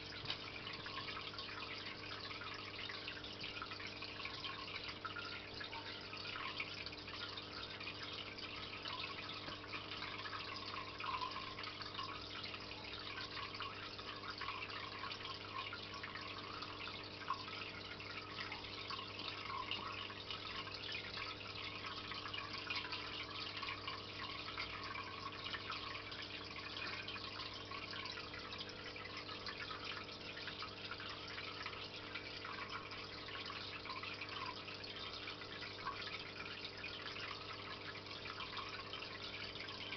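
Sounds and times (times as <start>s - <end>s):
filter motor hum: 0.0s - 39.9s
water trickling into tank: 0.0s - 39.9s.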